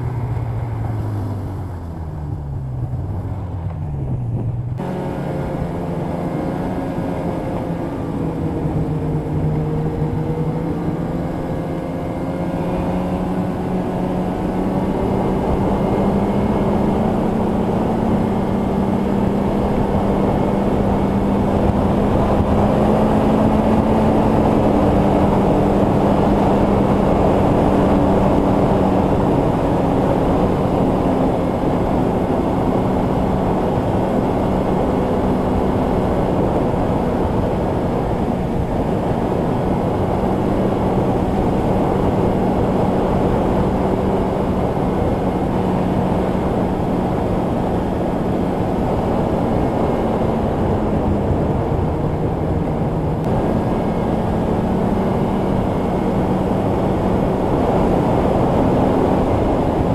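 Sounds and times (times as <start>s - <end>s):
snowmobile engine running: 0.0s - 59.9s
wind over microphone: 0.0s - 59.9s.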